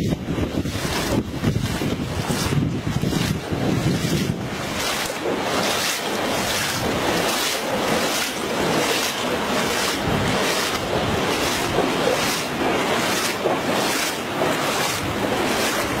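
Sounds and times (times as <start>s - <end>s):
footsteps wading through water: 0.0s - 16.0s
wind on microphone: 0.0s - 16.0s.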